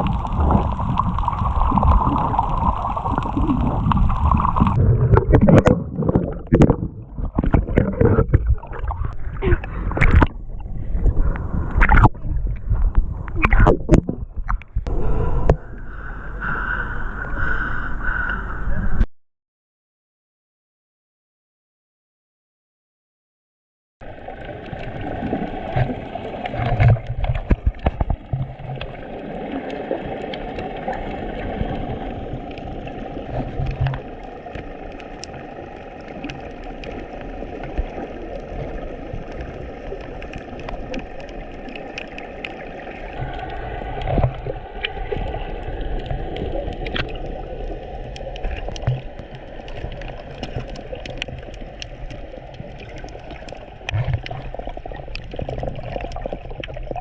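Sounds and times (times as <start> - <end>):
small clicks underwater: 0.0 - 10.7, 11.3 - 14.9, 24.2 - 57.0
gurgling bubbles: 0.0 - 14.9, 24.0 - 57.0
muffled underwater water wash: 0.0 - 19.0, 24.0 - 57.0.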